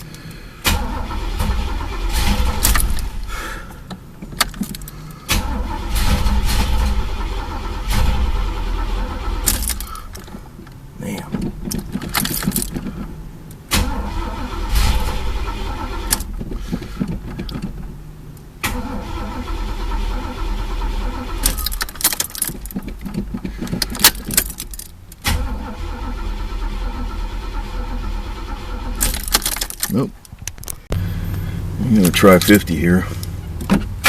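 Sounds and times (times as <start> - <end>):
car engine cranking on starter: 0.0 - 34.0.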